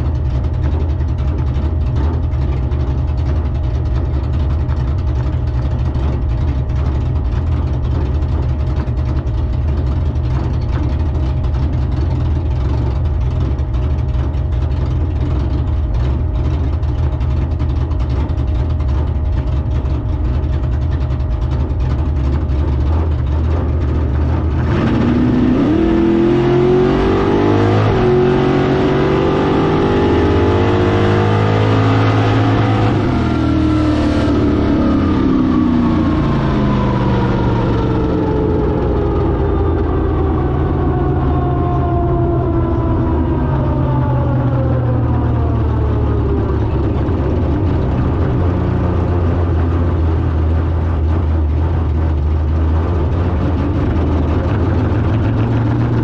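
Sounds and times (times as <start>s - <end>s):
drag car engine revving: 0.0s - 56.0s.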